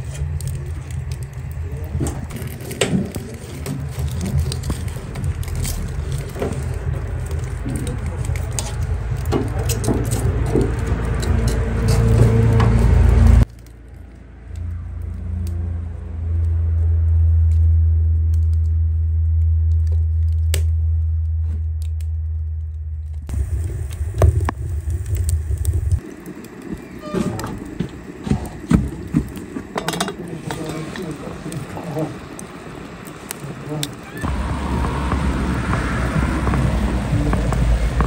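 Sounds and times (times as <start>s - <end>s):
deep steady rumble: 0.0s - 38.0s
wood fire crackling and popping: 0.0s - 38.0s.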